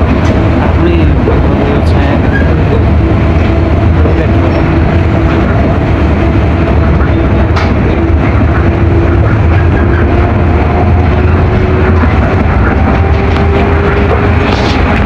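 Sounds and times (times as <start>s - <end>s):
train rumbling inside car: 0.0s - 15.0s.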